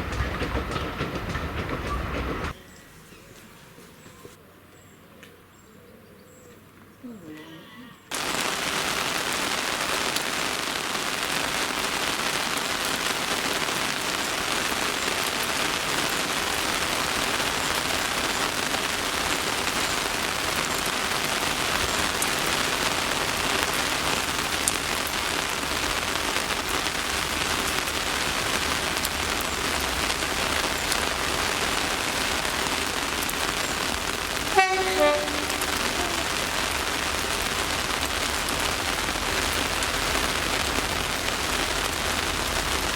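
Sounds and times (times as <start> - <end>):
steady rain falling: 0.0 - 2.6, 8.1 - 42.9.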